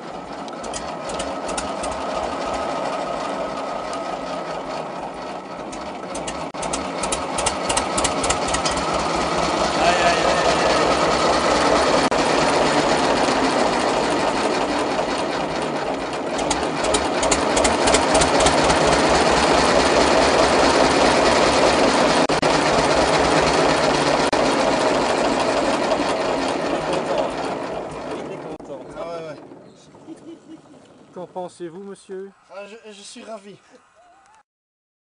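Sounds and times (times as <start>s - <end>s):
diesel engine running: 0.0s - 31.4s.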